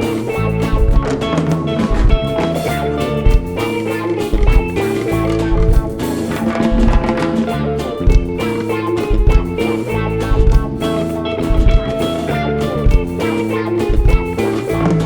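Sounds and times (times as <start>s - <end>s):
bass: 0.0s - 15.0s
drum kit beat: 0.0s - 15.0s
electric guitars: 0.0s - 15.0s
rock band playing: 0.0s - 15.0s.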